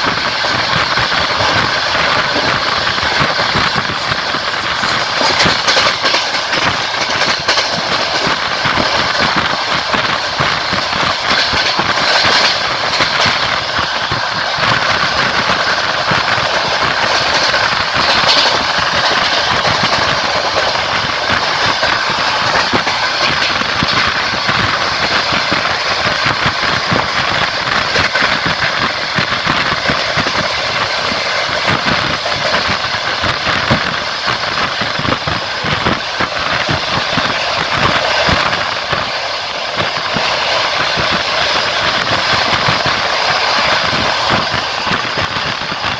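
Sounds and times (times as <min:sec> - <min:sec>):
train wheels clicking: 0:00.0 - 0:45.9
train wheels on rails: 0:00.0 - 0:45.9.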